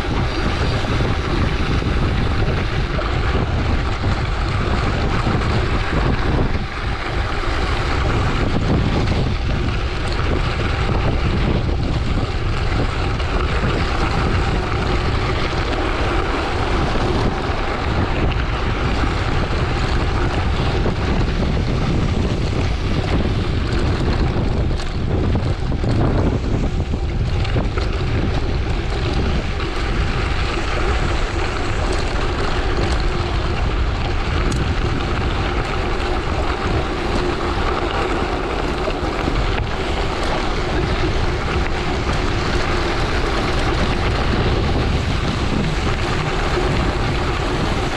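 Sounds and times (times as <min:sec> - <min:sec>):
tyres rumbling on gravel: 0:00.0 - 0:47.9
wind rushing over microphone: 0:00.0 - 0:47.9.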